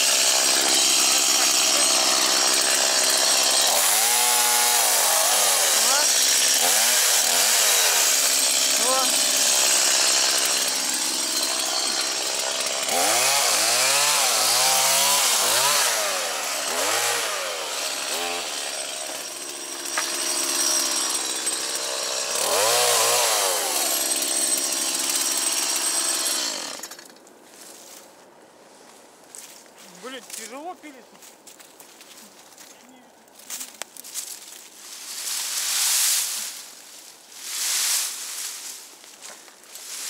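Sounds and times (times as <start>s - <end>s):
chainsaw cutting logs: 0.0s - 27.3s, 33.5s - 40.0s.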